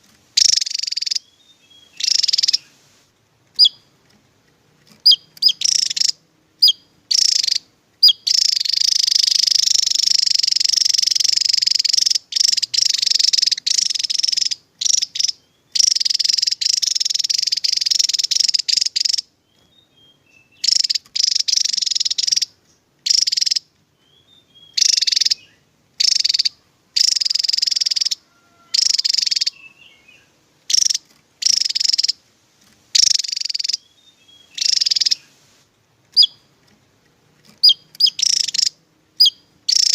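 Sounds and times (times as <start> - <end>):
bird singing buzzy trills: 0.4 - 2.8, 3.5 - 4.0, 4.9 - 32.2, 32.9 - 35.4, 36.1 - 36.7, 37.4 - 39.9.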